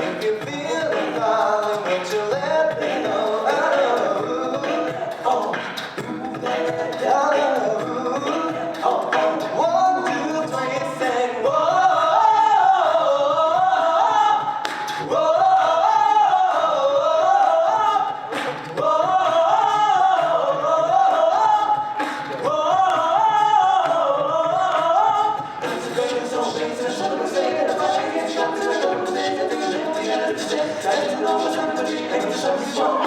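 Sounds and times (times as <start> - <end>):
backing vocal harmonies: 0.0 - 33.0
lead voice singing: 0.0 - 33.0
vocal percussion beat: 0.0 - 33.0.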